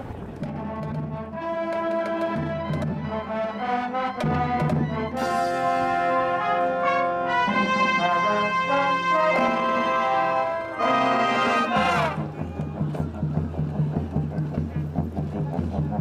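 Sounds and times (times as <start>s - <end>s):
marching band brass: 0.0s - 16.0s.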